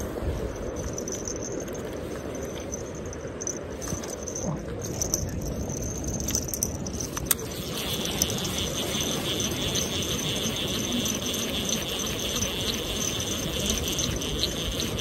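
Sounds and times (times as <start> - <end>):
fishing reel whirring and clicking: 0.4 - 15.0.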